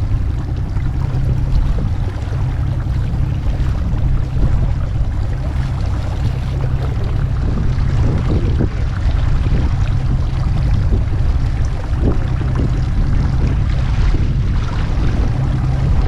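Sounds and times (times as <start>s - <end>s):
boat motor running: 0.0s - 16.0s
water rushing along hull: 0.0s - 16.0s
wind on microphone: 0.0s - 16.0s.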